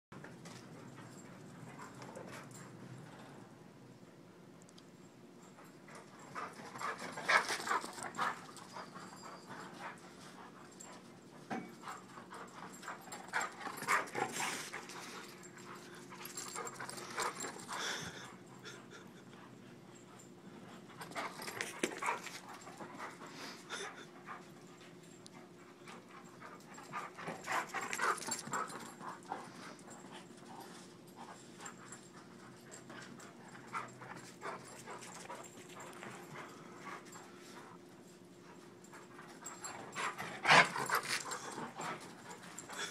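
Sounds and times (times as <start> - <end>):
steady low hum: 0.2 - 42.9
dog panting: 5.4 - 42.9.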